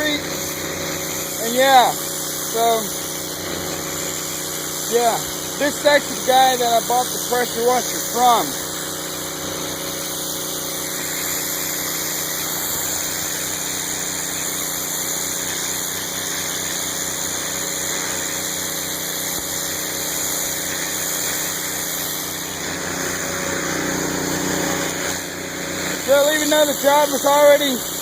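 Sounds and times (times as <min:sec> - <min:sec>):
pressure washer engine drone: 0:00.0 - 0:28.0
water spray hissing on concrete: 0:00.0 - 0:28.0.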